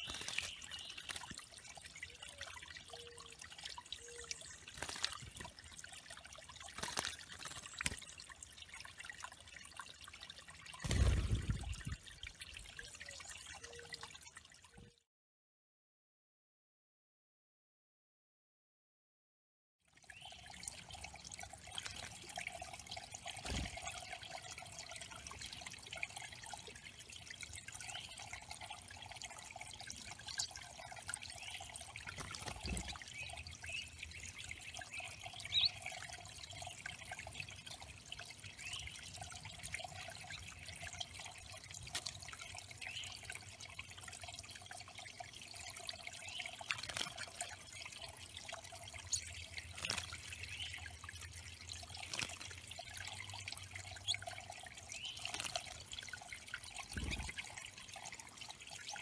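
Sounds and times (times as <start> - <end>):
small waterfall trickling: 0.0 - 15.1, 19.8 - 59.0
water drips and splashes: 0.0 - 15.1, 19.8 - 59.0.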